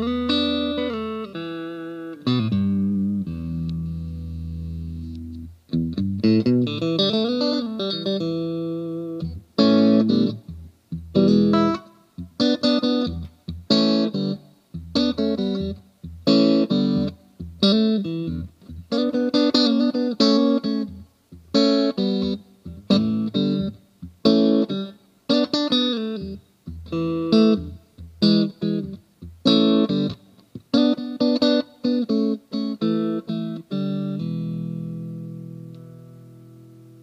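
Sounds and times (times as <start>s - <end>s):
electric guitar chords and riffs: 0.0s - 37.0s.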